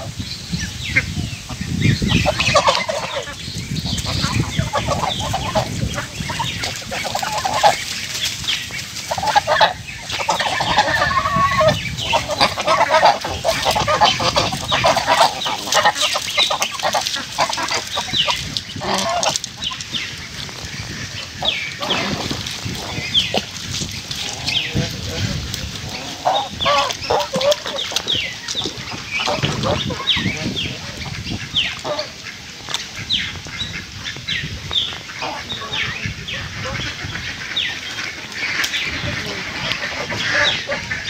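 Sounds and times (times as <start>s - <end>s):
geese honking: 0.9s - 41.0s.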